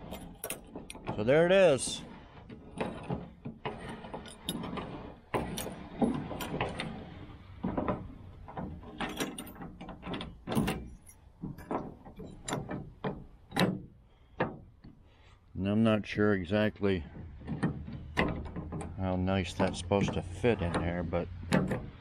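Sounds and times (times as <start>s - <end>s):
metallic clicks and clunks of handle: 0.0s - 15.2s, 16.1s - 22.0s.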